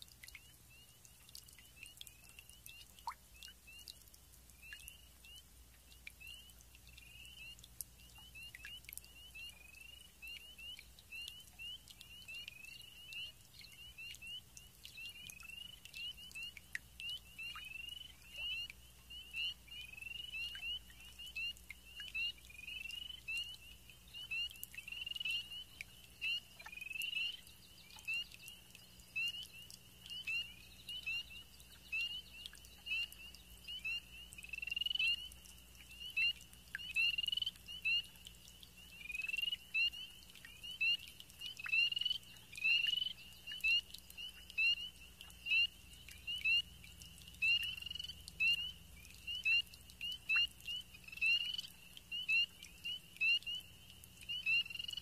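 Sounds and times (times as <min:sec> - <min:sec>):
frogs chirping in chorus: 0:04.6 - 0:55.0.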